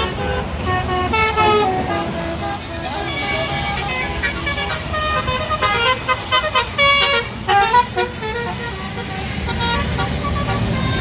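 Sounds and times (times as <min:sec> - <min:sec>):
bus musical horn tune: 0:00.0 - 0:11.0
traffic noise: 0:00.0 - 0:11.0.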